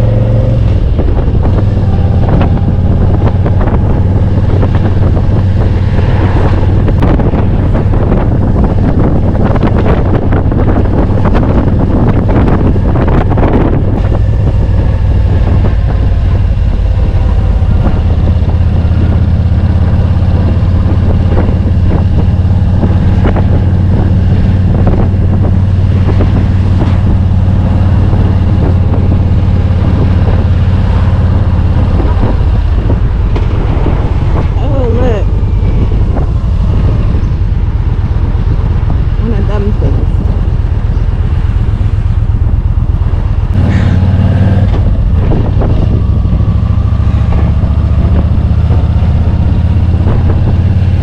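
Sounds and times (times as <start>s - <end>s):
motorcycle engine cruising: 0.0s - 51.0s
wind rushing over microphone: 0.0s - 51.0s.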